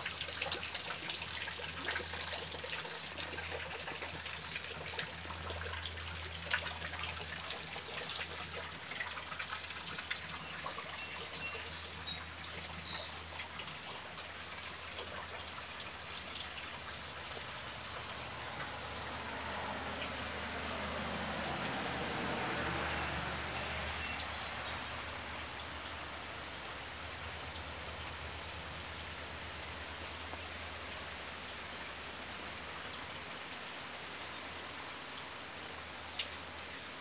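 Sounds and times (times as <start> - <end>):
rain hiss: 0.0 - 37.0
rain pattering on leaves: 0.0 - 37.0.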